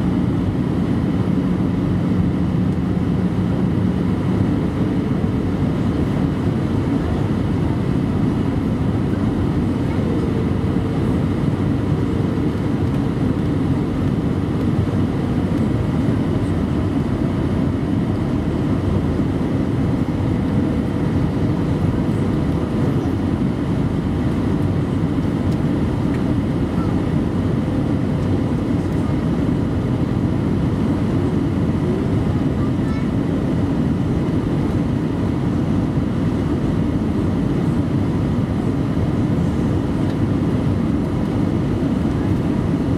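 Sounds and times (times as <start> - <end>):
air rushing along fuselage: 0.0 - 42.9
jet engine roar: 0.0 - 42.9.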